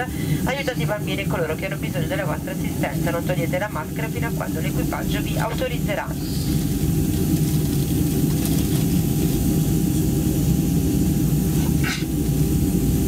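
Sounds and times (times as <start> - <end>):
airliner cabin low rumble: 0.0 - 13.0
thin constant hum: 0.0 - 13.0.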